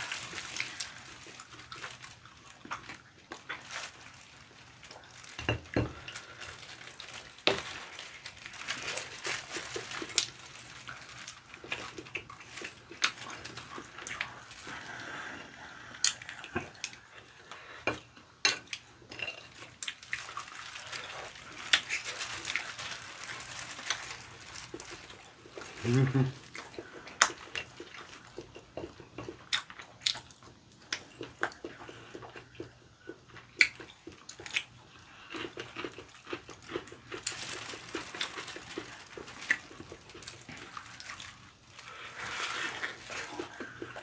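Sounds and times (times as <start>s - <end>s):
chewing and wet crackling: 0.0s - 44.0s.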